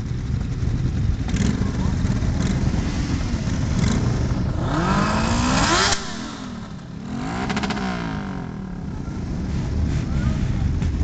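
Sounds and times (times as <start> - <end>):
motorcycle engine revving: 0.0 - 11.0
motorcycle engines running: 0.0 - 11.0.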